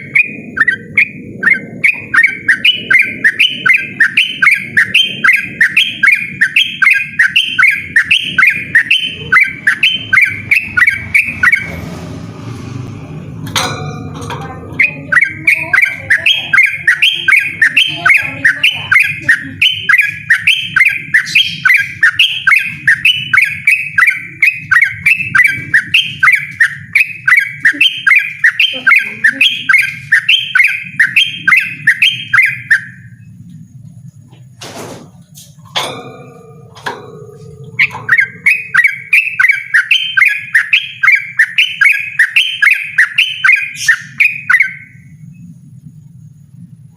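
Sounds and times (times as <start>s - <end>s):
bird chirping rapidly: 0.0s - 12.1s, 13.6s - 33.4s, 35.3s - 45.5s.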